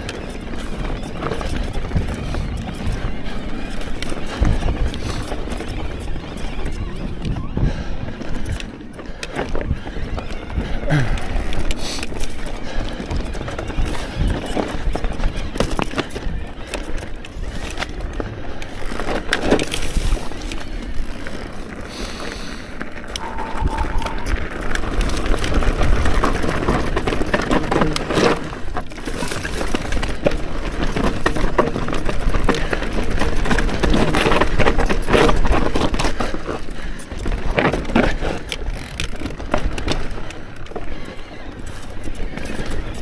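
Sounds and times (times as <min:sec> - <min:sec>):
wind rumble on microphone: 0:00.0 - 0:18.6, 0:22.9 - 0:40.6.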